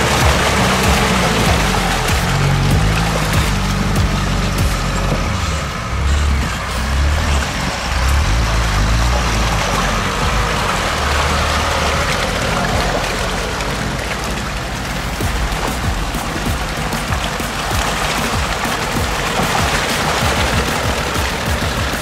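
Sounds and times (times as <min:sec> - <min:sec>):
engine running under load: 0:00.0 - 0:22.0
steady rushing noise: 0:00.0 - 0:22.0.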